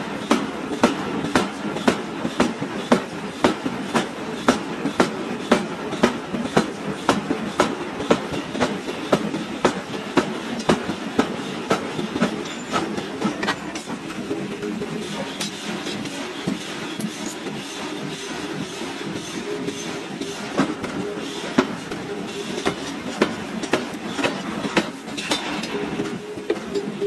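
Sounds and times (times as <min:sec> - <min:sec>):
power hammer striking hot steel: 0:00.2 - 0:27.0.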